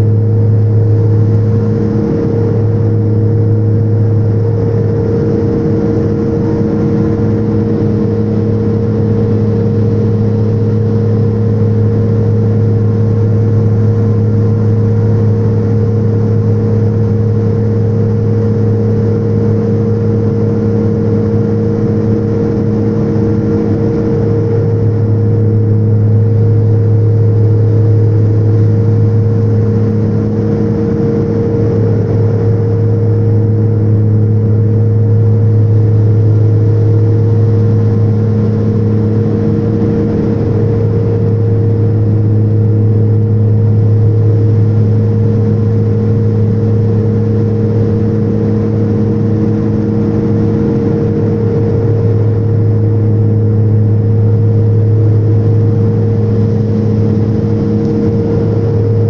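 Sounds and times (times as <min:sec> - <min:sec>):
engine and air rush: 0:00.0 - 0:59.0
propeller hum: 0:00.0 - 0:59.0.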